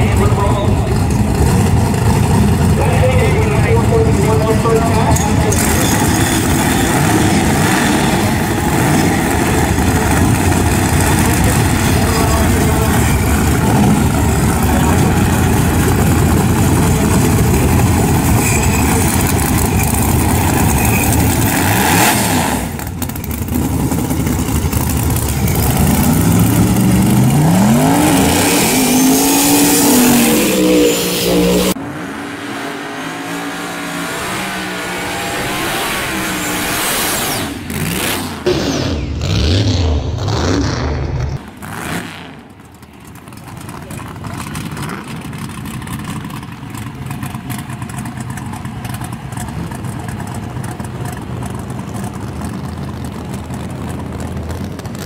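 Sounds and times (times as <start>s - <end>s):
car doing a burnout: 0.0s - 55.0s
car engine running loudly: 0.0s - 55.0s
car engines revving: 0.0s - 55.0s.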